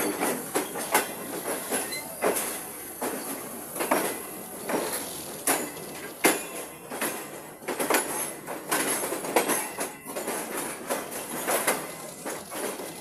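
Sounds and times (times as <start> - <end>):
train coach knocks and rattles: 0.0 - 13.0
train rumble: 0.0 - 13.0.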